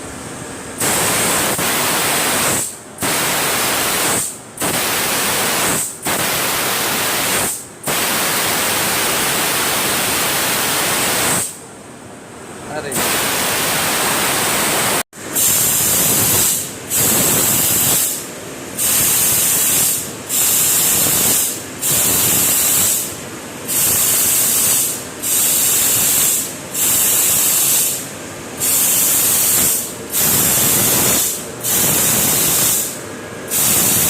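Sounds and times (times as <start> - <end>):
laser cutting head gas hissing: 0.8 - 11.6, 12.8 - 34.0.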